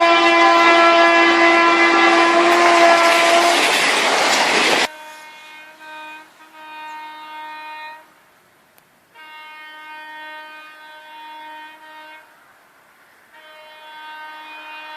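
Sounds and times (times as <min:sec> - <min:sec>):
train horn: 0:00.0 - 0:03.8, 0:04.7 - 0:08.2, 0:09.1 - 0:12.6, 0:13.2 - 0:14.9
train noise: 0:00.0 - 0:14.9.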